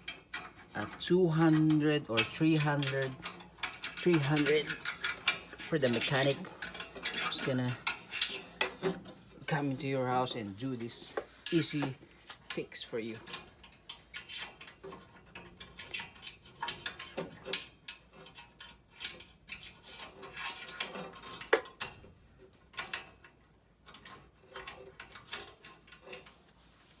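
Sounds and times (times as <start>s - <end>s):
hands handling metal parts: 0.0s - 27.0s.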